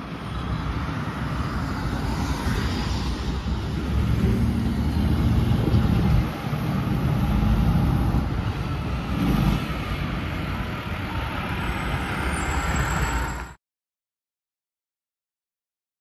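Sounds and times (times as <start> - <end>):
fire engine diesel engine: 0.0 - 13.6
road traffic passing: 0.0 - 13.6.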